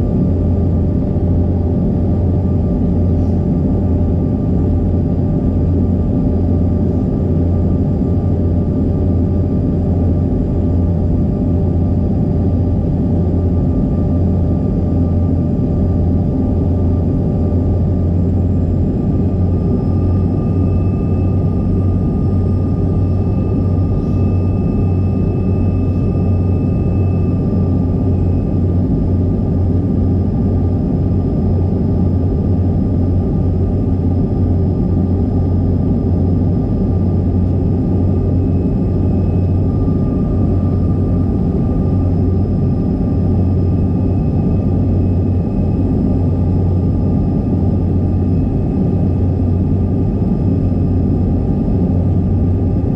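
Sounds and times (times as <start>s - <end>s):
jet cabin rumble: 0.0s - 52.9s
thin steady whine: 0.0s - 52.9s.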